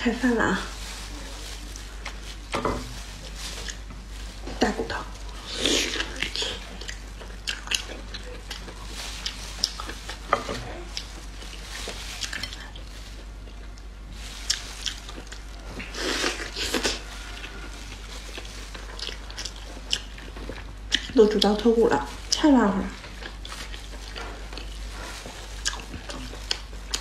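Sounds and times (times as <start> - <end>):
chewing meat: 0.8 - 27.0.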